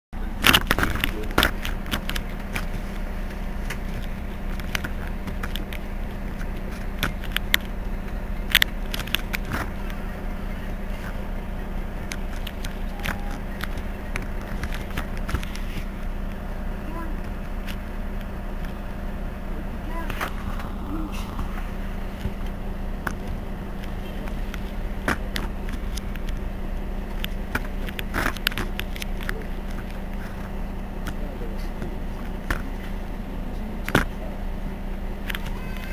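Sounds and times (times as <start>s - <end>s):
bus engine idling: 0.2s - 35.9s.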